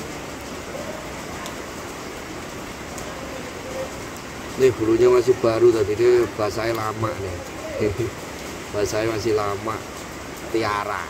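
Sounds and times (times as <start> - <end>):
rain on wet pavement: 0.0 - 11.0.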